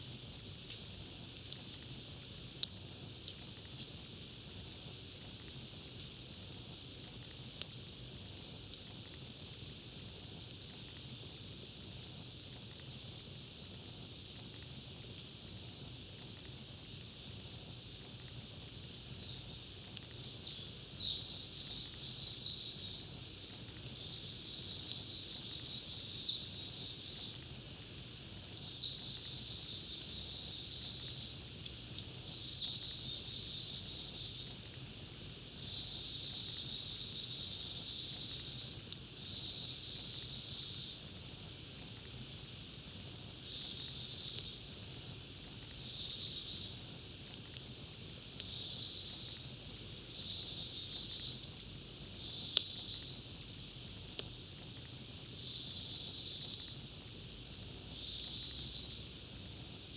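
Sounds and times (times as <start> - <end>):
campfire crackling: 0.0 - 59.9
steady high hiss: 0.0 - 59.9.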